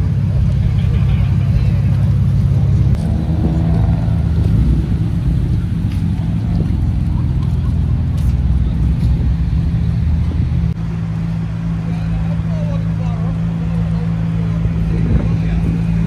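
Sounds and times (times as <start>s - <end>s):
car engine exhaust rumble: 0.0s - 16.0s.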